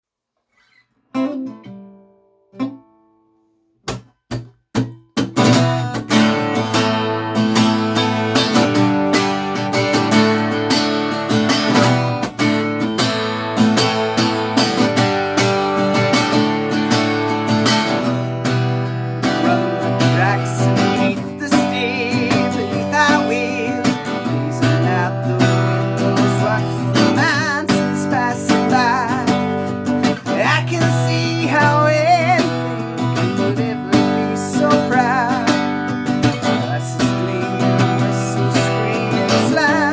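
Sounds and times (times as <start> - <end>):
acoustic guitar strumming: 0.6 - 39.9.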